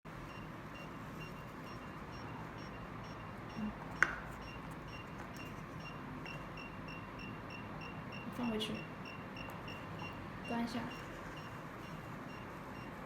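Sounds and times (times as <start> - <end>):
electronic alarm buzzer beeping: 0.1 - 13.0.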